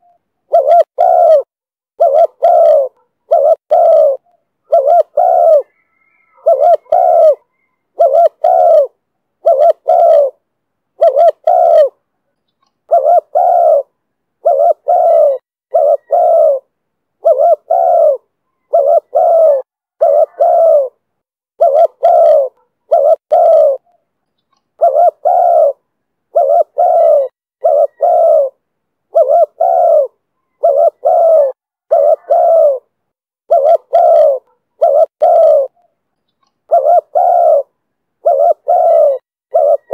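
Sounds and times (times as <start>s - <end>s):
dove cooing: 0.0s - 10.4s, 11.0s - 12.0s, 12.9s - 24.0s, 24.8s - 36.0s, 36.6s - 39.9s.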